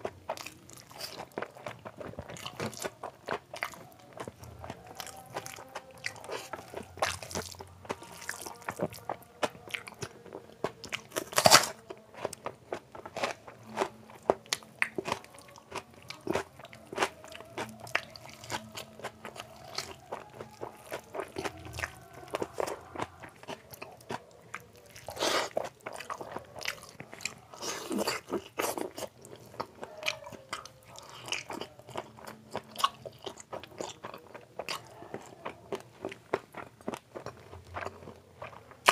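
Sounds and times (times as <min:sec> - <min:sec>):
chewing wet rice: 0:00.0 - 0:38.9
crunchy bites: 0:00.0 - 0:38.9.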